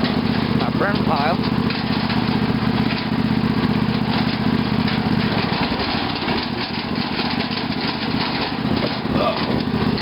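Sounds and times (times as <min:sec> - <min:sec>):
lawn tractor engine running: 0:00.0 - 0:10.0.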